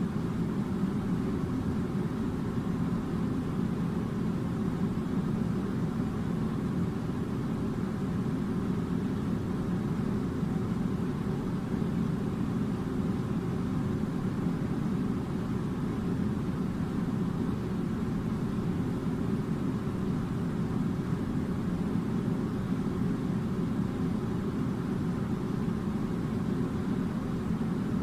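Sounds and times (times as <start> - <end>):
air conditioner running: 0.0 - 28.0.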